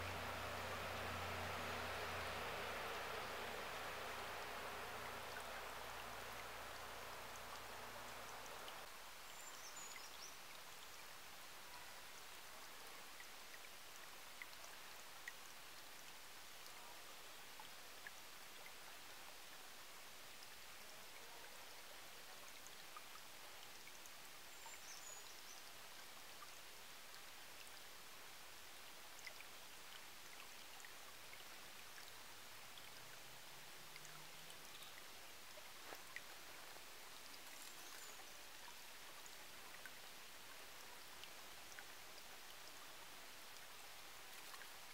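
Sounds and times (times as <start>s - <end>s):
stream babbling over rocks: 0.0s - 44.9s.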